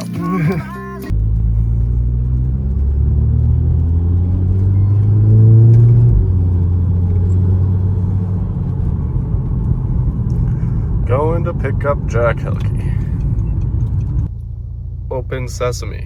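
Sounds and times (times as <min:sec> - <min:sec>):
car engine: 0:00.0 - 0:16.0
road rumble: 0:00.0 - 0:16.0.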